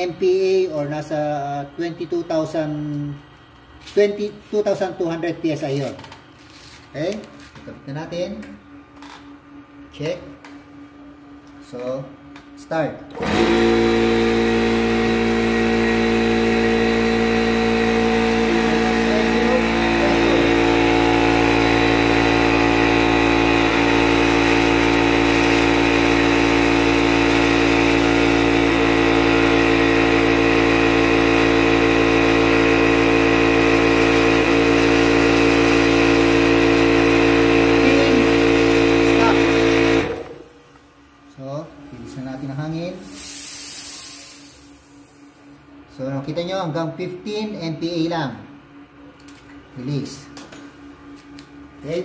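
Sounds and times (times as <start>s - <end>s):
air compressor running: 0.0s - 52.0s.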